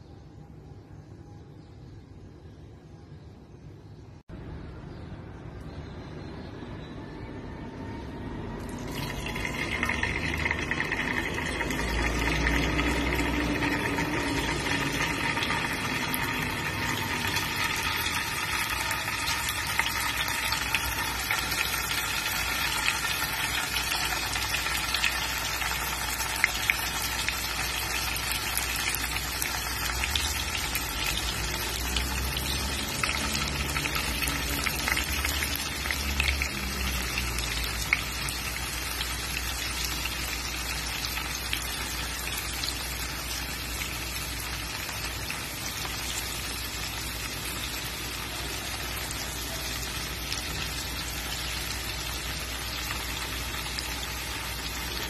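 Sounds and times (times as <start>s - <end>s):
tofu sizzling with crackling pops: 8.8s - 55.0s.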